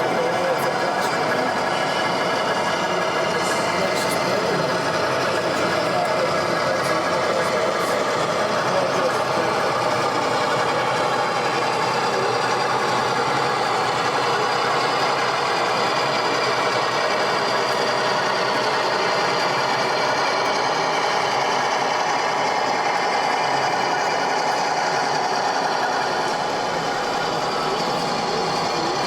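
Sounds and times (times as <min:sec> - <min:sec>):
model locomotive engine droning: 0:00.0 - 0:29.0.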